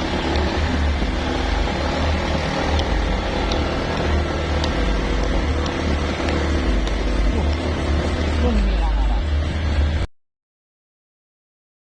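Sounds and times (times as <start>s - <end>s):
vehicle engine running: 0.0s - 10.1s.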